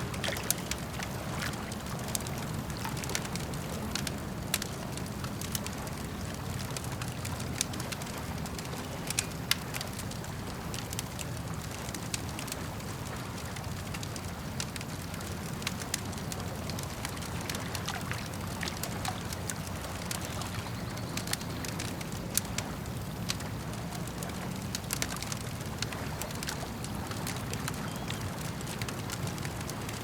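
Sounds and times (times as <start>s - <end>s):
campfire crackling and popping: 0.0s - 30.0s
lake water washing: 0.0s - 30.0s.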